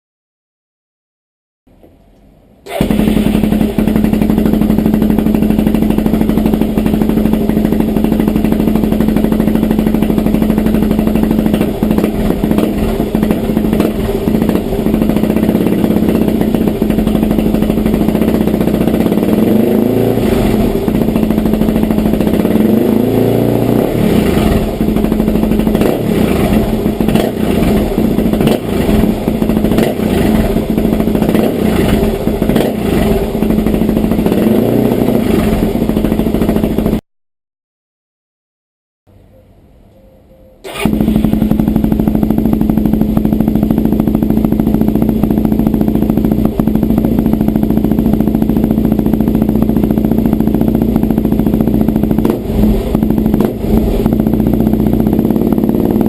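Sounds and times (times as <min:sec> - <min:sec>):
motorcycle engine idling and revving: 0:02.6 - 0:37.0, 0:40.6 - 0:56.0.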